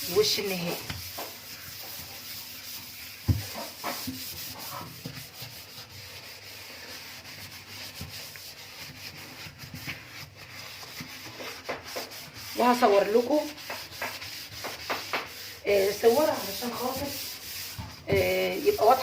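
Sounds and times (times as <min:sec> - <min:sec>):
loofah scrubbing steel sink: 0:00.0 - 0:19.0.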